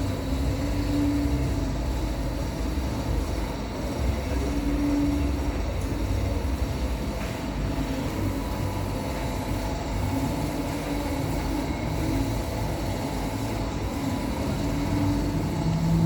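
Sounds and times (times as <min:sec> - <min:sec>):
printing machine running: 0:00.0 - 0:16.0.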